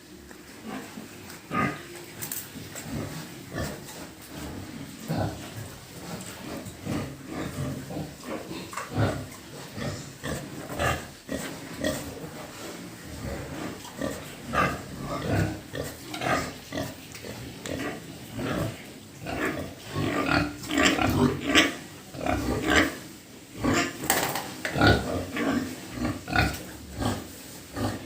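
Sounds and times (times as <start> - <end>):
pigs grunting: 0.6 - 23.0, 23.6 - 28.0.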